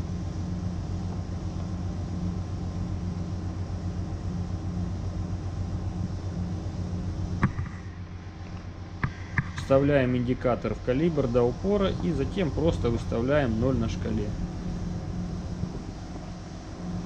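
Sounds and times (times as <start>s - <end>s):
machinery and ventilation hum: 0.0s - 17.0s.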